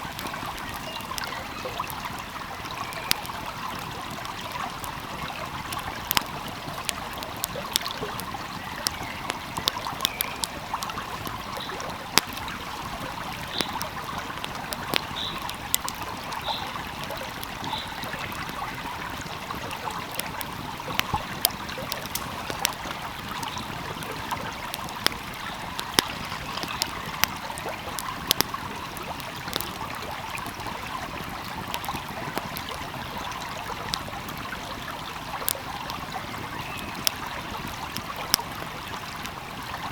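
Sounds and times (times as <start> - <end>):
stream flowing: 0.0 - 39.9
wood fire crackling: 0.0 - 39.9.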